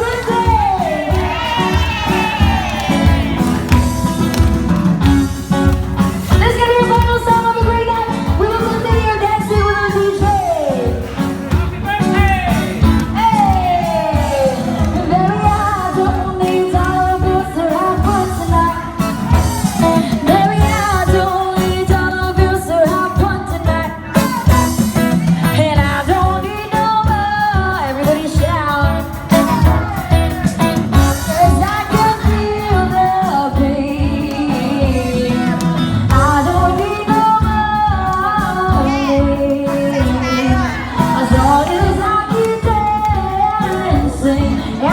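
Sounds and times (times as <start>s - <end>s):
person singing: 0.0s - 4.0s, 6.3s - 44.9s
acoustic guitar: 0.0s - 44.9s.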